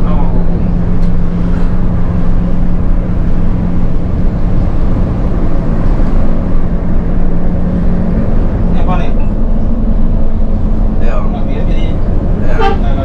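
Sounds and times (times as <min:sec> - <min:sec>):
bus engine hum: 0:00.0 - 0:13.0
road rumble: 0:00.0 - 0:13.0.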